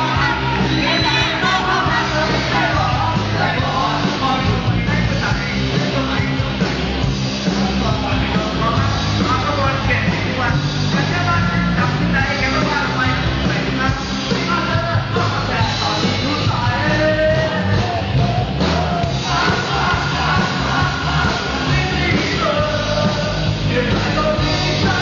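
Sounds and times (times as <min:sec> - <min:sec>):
person singing: 0:00.0 - 0:06.6, 0:07.5 - 0:25.0
live band playing pop-folk: 0:00.0 - 0:25.0.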